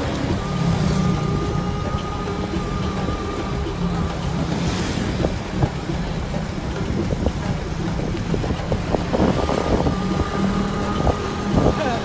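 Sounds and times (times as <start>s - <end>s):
motorbike engine humming: 0.0s - 12.0s
wind rushing across microphone: 0.0s - 12.0s.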